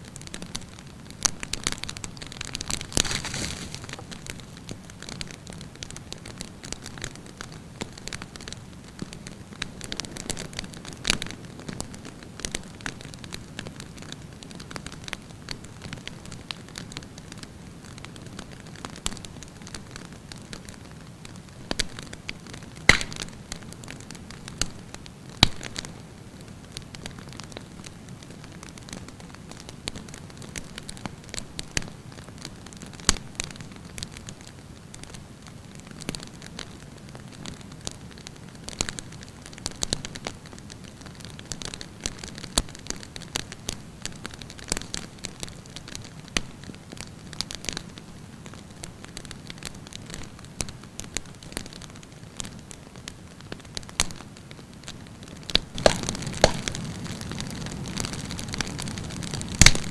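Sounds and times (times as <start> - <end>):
campfire hissing: 0.0 - 59.9
fire crackling and popping: 0.0 - 59.9.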